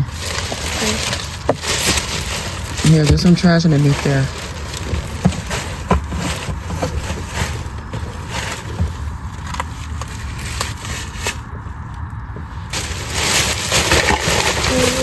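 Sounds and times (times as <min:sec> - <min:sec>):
objects being handled and moved: 0:00.0 - 0:15.0
steady low rumble: 0:00.0 - 0:15.0.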